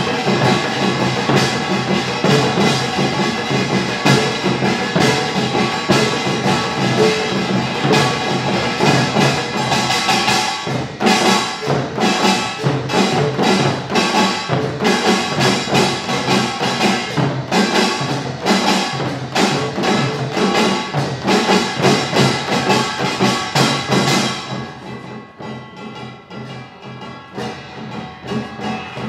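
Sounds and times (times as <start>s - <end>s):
drums: 0.0s - 29.0s
small gongs clanging: 0.0s - 29.0s.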